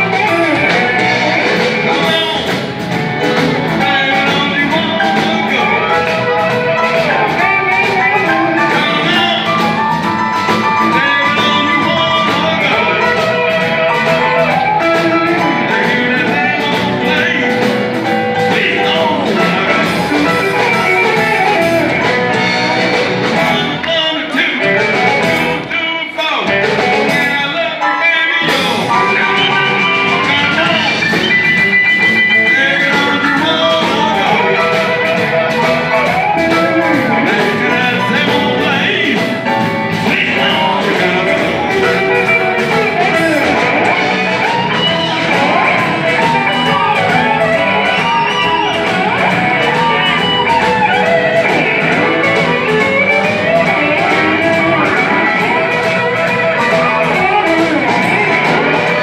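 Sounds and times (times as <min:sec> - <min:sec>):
amplified blues harmonica: 0:00.0 - 0:59.0
bass guitar: 0:00.0 - 0:59.0
drums: 0:00.0 - 0:59.0
electric guitar: 0:00.0 - 0:59.0
keyboard: 0:00.0 - 0:59.0.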